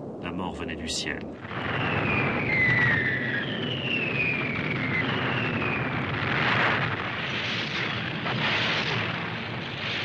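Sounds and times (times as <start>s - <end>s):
bomb explosion: 0.0s - 10.0s
low rumble of detonations: 0.0s - 10.0s
falling bombs whistling: 1.4s - 10.0s.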